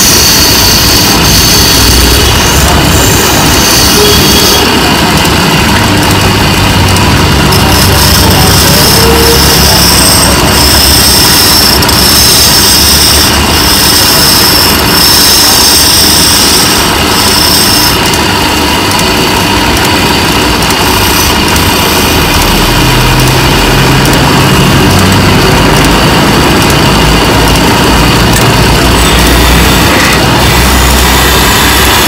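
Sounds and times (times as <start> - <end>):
chisel cutting hiss on wood: 0.0 - 32.0
wood lathe running: 0.0 - 32.0.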